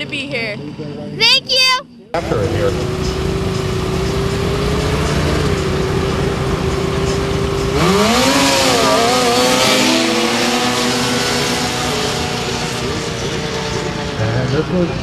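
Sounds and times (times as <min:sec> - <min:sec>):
snowmobile engine revving: 0:02.2 - 0:15.0.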